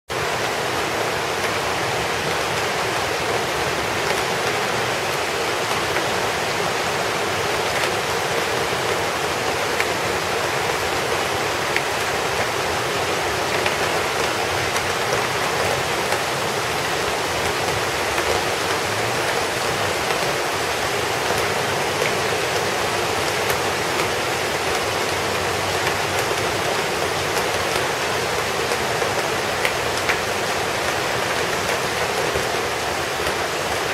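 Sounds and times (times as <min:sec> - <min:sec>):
heavy rain hiss: 0:00.1 - 0:33.9.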